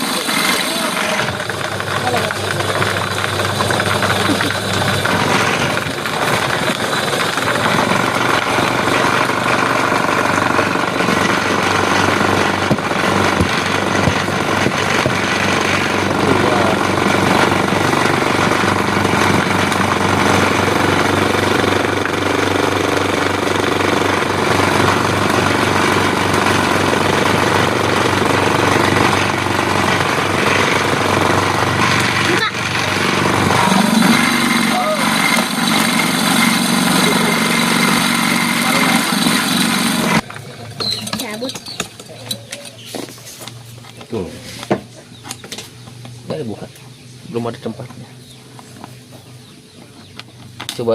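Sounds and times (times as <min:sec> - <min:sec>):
chopper machine shredding fruit: 0:00.0 - 0:50.9.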